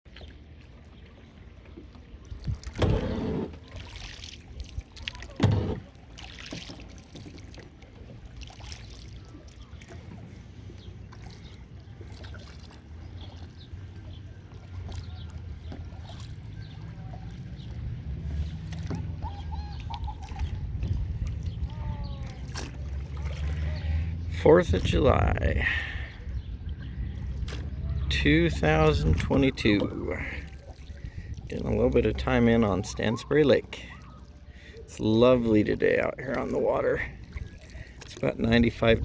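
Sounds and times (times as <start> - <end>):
paddle dipping into water: 0.1 - 39.0
water dripping from paddle: 3.5 - 24.8, 25.6 - 38.8.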